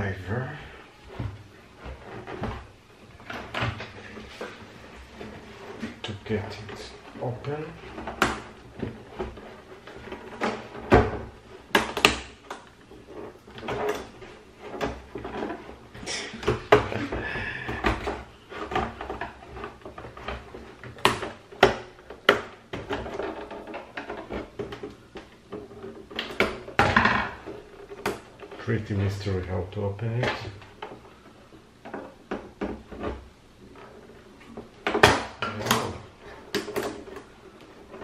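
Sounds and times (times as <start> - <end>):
plastic scraping and creaking: 0.0 - 38.0.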